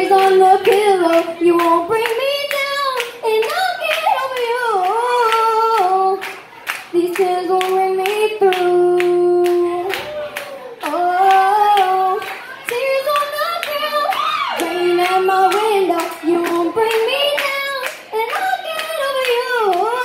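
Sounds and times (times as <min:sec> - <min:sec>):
girl singing pop ballad: 0:00.0 - 0:06.3, 0:06.9 - 0:10.1, 0:10.8 - 0:20.0
sharp claps: 0:00.2 - 0:19.9.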